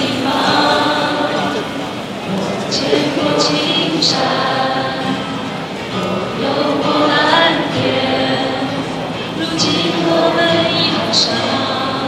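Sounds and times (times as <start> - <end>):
woman singing into microphone: 0.0 - 1.8, 2.6 - 12.0
acoustic guitar: 0.0 - 12.0.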